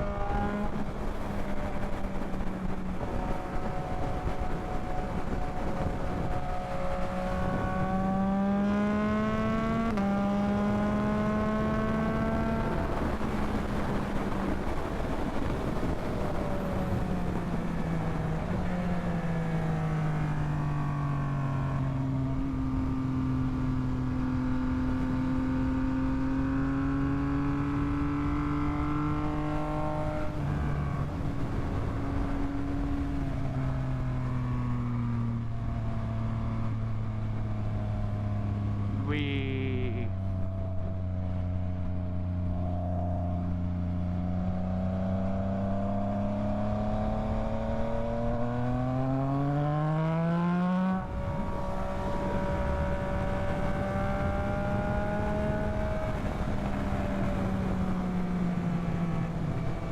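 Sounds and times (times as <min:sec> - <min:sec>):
wind noise on microphone: 0:00.0 - 0:21.0, 0:26.8 - 0:39.0, 0:44.4 - 0:59.9
motorcycle engine accelerating: 0:00.0 - 0:59.9.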